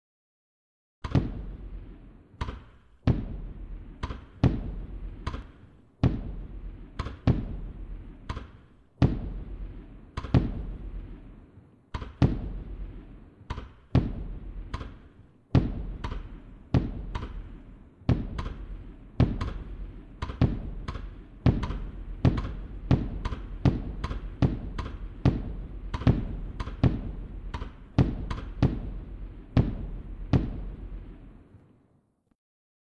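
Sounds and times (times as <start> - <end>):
fireworks bangs: 1.1 - 31.6.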